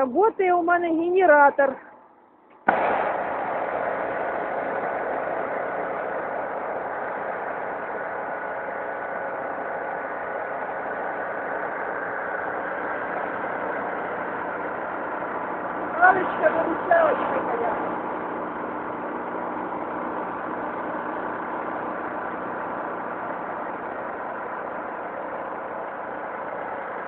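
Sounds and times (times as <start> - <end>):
portable generator engine running: 0.0 - 27.0.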